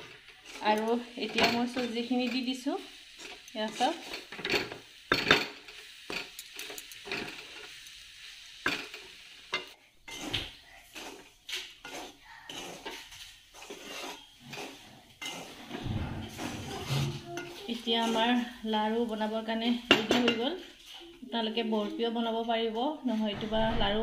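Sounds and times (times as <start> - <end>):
spatula scraping in metal pan: 0.0 - 7.8, 8.7 - 22.4, 23.0 - 24.0.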